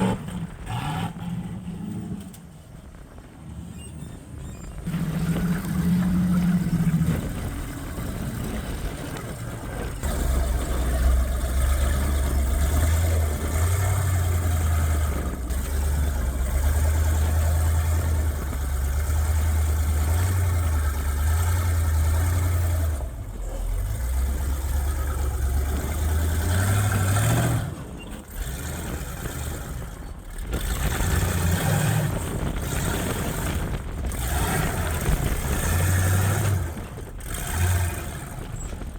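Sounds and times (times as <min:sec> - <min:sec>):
utility vehicle engine under load: 0:00.0 - 0:38.9.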